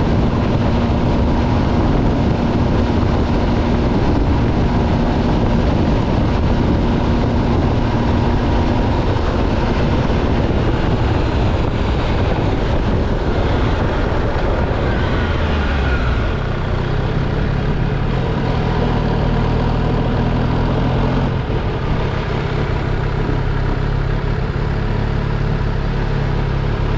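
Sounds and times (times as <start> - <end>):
wind rush over microphone: 0.0 - 24.0
motorcycle engine running: 0.0 - 26.9.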